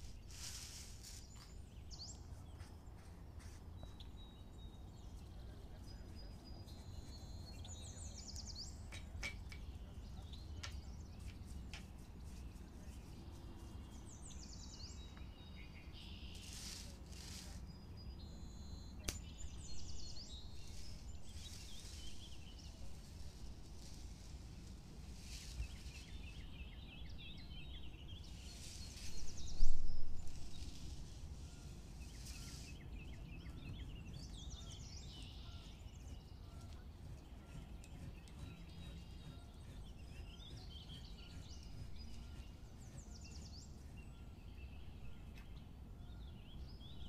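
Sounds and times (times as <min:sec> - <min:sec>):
faint birdsong chirping: 0:00.0 - 0:47.0.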